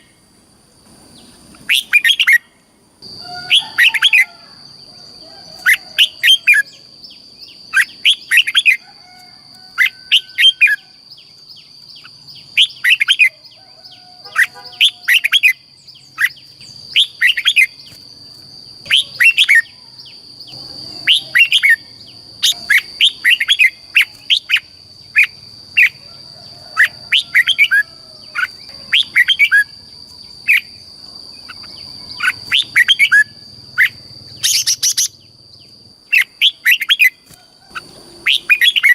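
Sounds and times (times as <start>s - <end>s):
bird warbling song: 3.1s - 4.5s, 5.2s - 38.9s.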